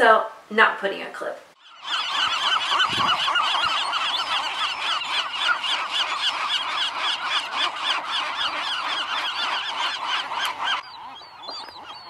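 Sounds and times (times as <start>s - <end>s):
gulls crying and squawking: 1.6s - 12.0s.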